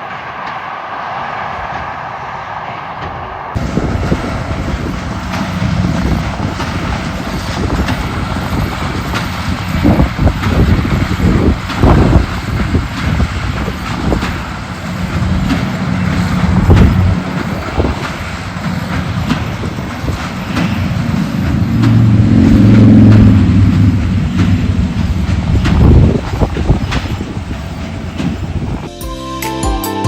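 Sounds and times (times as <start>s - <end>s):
harvest machine engine drone: 0.0s - 28.9s
machinery knocks and clatter: 3.0s - 28.9s.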